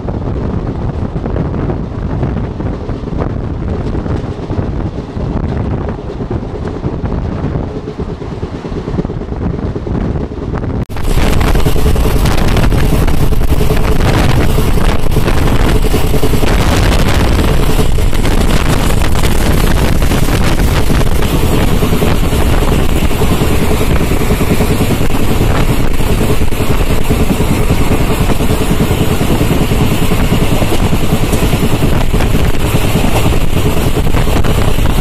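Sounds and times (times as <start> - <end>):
passenger train running: 0.0 - 35.0
wind on microphone: 0.0 - 35.0.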